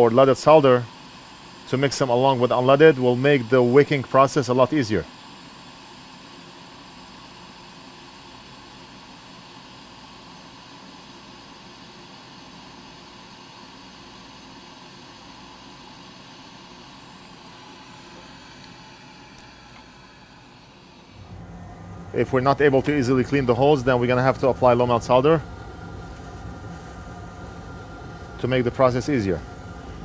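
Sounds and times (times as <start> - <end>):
hot air blower hissing: 0.0 - 30.0.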